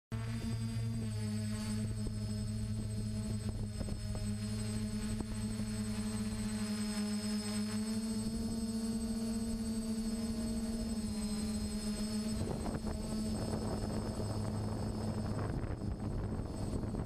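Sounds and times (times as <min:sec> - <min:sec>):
drone motors humming: 0:00.1 - 0:17.0.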